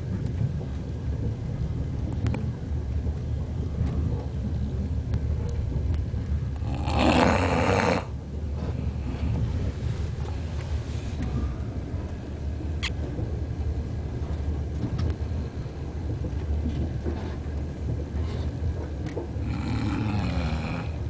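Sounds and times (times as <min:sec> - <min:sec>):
train carriage rumbling on track: 0:00.0 - 0:21.0.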